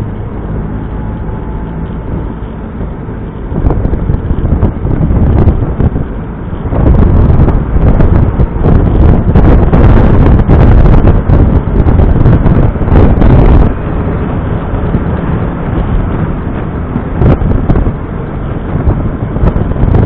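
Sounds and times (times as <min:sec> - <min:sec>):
car running and road noise: 0:00.0 - 0:20.0
wind buffeting microphone: 0:00.0 - 0:20.0.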